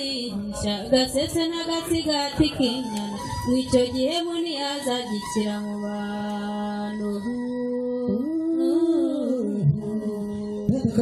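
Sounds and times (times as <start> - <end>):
woman chanting into microphone: 0.0 - 11.0.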